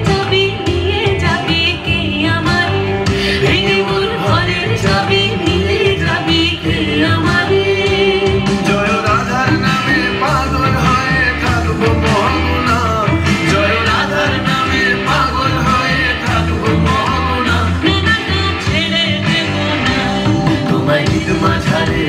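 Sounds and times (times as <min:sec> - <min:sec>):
song over loudspeakers: 0:00.0 - 0:22.0.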